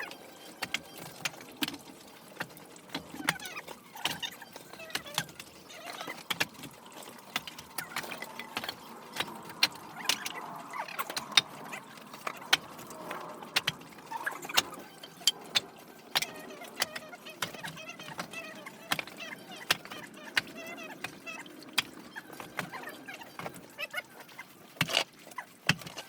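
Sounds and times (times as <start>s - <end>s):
sharp clicks and knocks: 0.6s - 22.8s.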